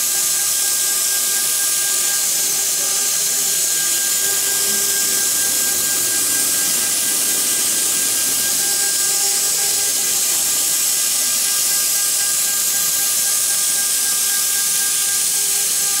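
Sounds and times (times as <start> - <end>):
router bit cutting wood hiss: 0.0 - 16.0
spindle whine: 0.0 - 16.0.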